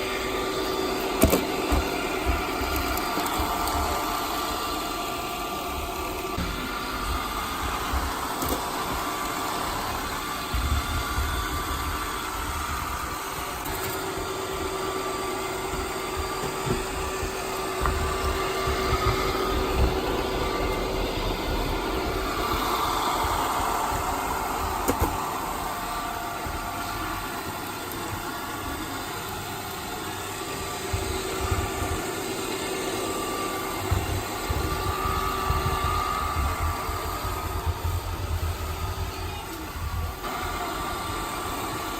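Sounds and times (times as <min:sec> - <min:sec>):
robot vacuum cleaner running: 0:00.0 - 0:41.9.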